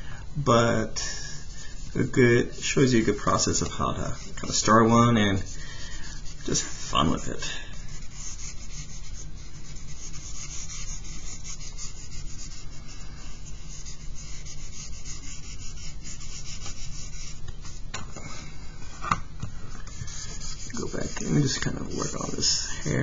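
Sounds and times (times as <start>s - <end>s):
charcoal scratching on paper: 1.0s - 17.9s, 19.9s - 23.0s.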